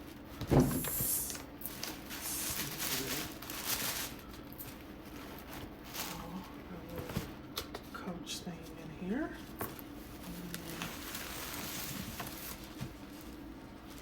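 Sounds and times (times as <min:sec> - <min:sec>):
packaging rustling and crinkling: 0:00.0 - 0:07.8, 0:09.4 - 0:14.0.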